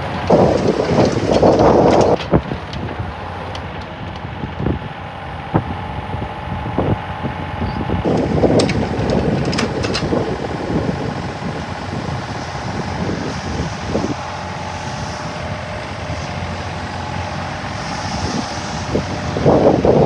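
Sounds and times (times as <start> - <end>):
excavator diesel engine running: 0.0 - 20.0
wind noise on microphone: 0.0 - 20.0.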